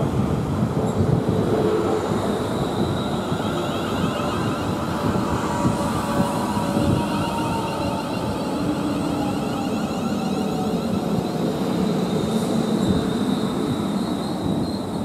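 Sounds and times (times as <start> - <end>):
electric train traction whine: 0.9 - 15.0.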